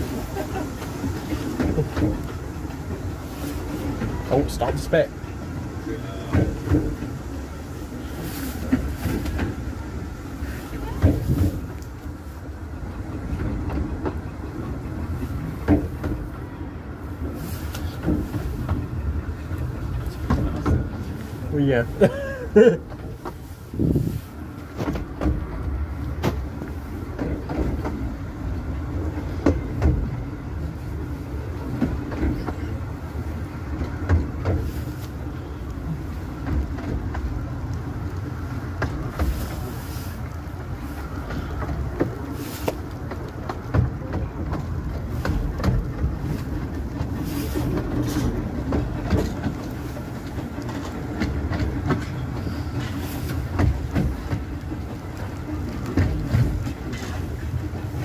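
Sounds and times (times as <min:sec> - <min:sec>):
train running on track: 0:00.0 - 0:58.0
wheels clicking over rail joints: 0:00.0 - 0:58.0.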